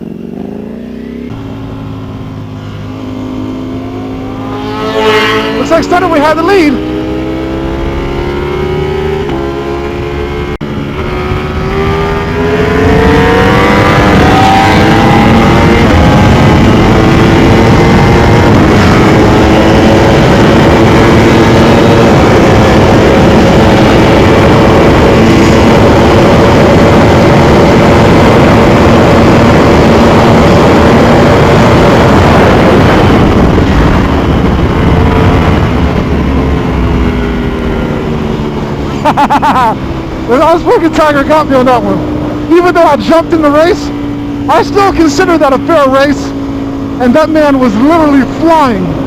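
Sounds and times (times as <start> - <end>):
motorcycle engine revving: 0.0 - 49.0
wind rush: 1.3 - 49.0.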